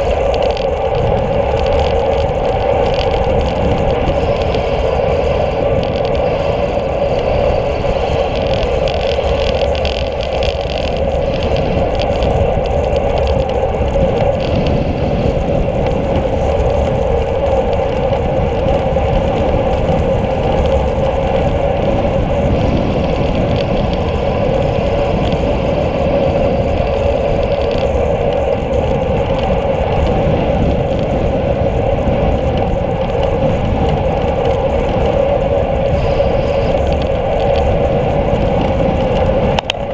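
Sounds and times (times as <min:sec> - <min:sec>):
bicycle tyres rolling on asphalt: 0:00.0 - 0:39.9
constant hum: 0:00.0 - 0:39.9
wind rush: 0:00.0 - 0:39.9.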